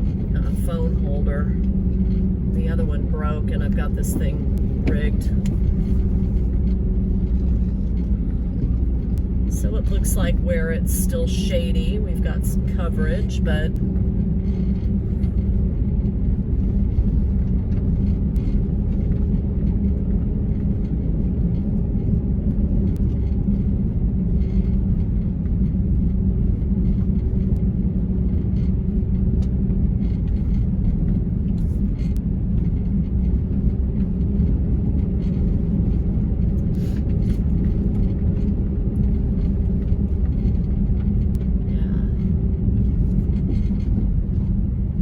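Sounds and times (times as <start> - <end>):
vehicle driving on wet road: 0.0 - 45.0.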